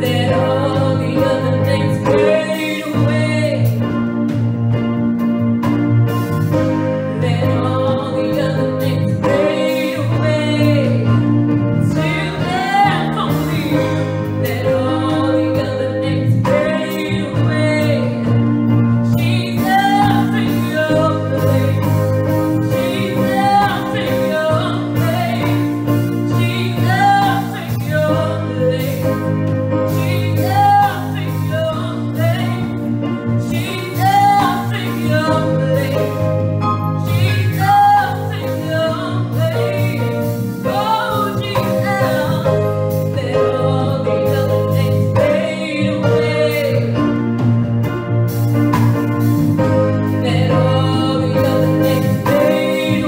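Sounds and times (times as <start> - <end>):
woman singing gospel song: 0.0 - 4.3, 6.5 - 47.4, 50.0 - 53.0
instrumental accompaniment: 0.0 - 53.0.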